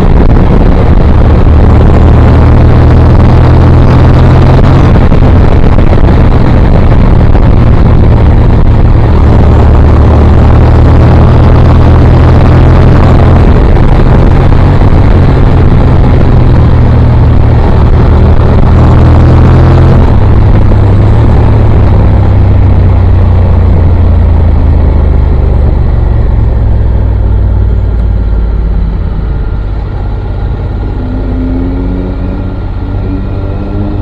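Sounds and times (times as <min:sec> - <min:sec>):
motorcycle engine at speed: 0:00.0 - 0:34.0
wind rumble on microphone: 0:00.0 - 0:34.0.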